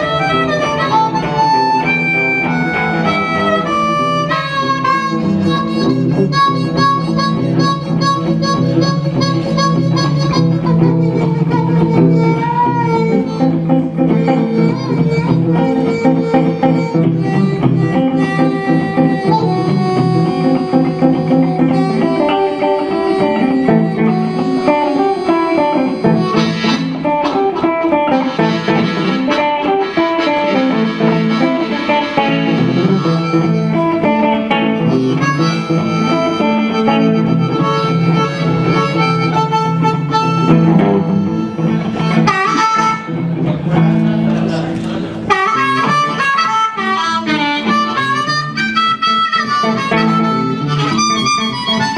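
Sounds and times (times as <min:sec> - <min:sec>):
electric guitar playing blues: 0:00.0 - 0:51.9
harmonica: 0:00.0 - 0:51.9.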